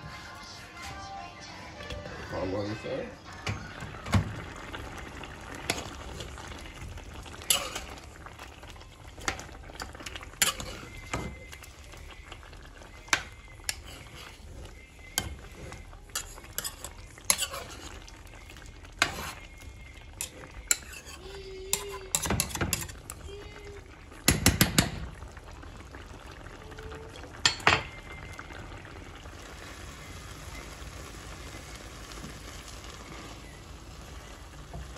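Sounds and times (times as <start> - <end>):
food sizzling in pot: 2.2 - 34.9.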